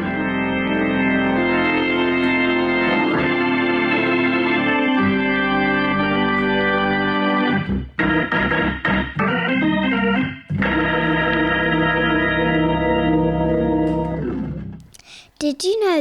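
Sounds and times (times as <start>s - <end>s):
organ chords through rotating speaker: 0.0s - 14.8s.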